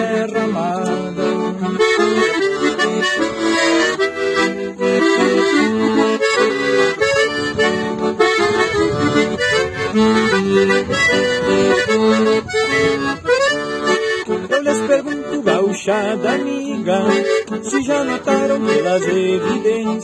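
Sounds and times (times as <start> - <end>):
lively accordion music: 0.0 - 20.0.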